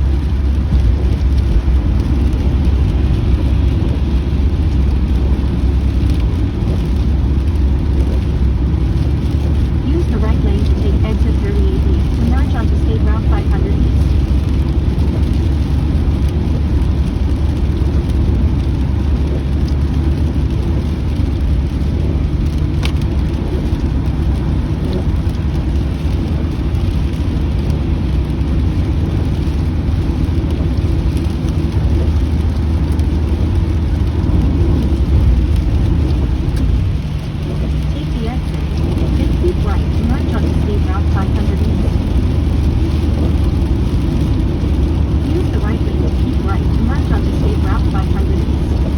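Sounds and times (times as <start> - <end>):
rain on car: 0.0 - 48.9
tyres and engine rumble: 0.0 - 48.9.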